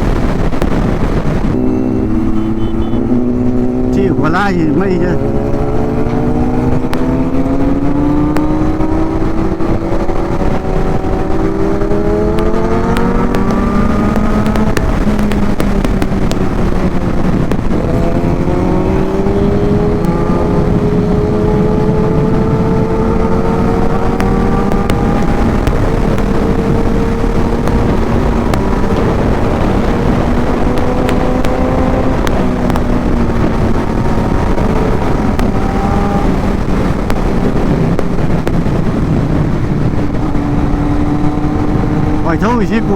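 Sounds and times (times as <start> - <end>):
motorcycle engine: 0.0 - 42.9.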